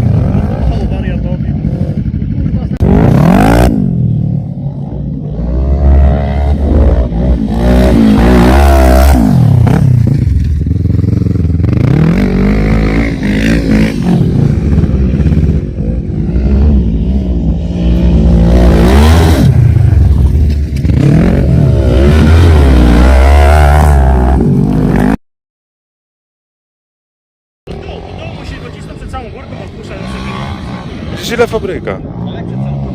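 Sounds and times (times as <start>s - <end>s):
atv engine revving: 0.0s - 25.2s, 27.7s - 32.9s.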